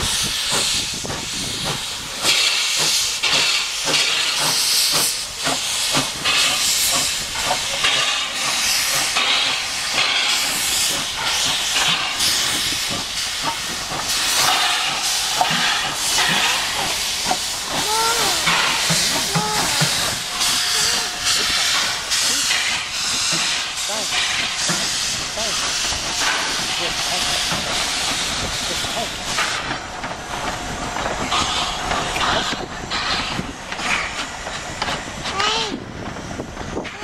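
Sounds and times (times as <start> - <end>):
steam locomotive chuffing: 0.0 - 37.0.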